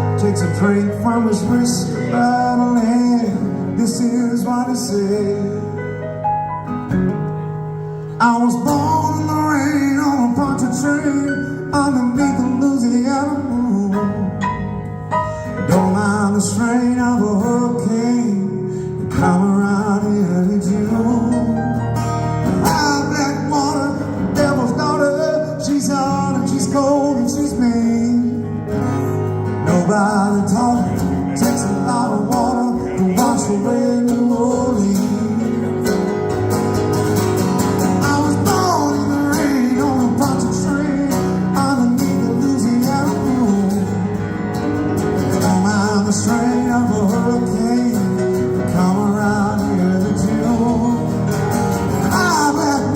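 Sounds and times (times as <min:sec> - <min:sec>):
live band with guitar: 0:00.0 - 0:52.9.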